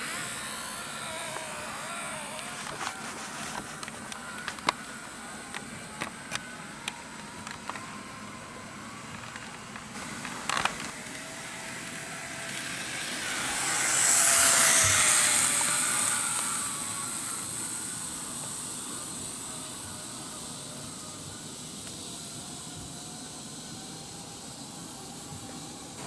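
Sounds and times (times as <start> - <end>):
model train running noise: 0.0 - 26.0
model train wheels clicking over rail joints: 0.0 - 26.0.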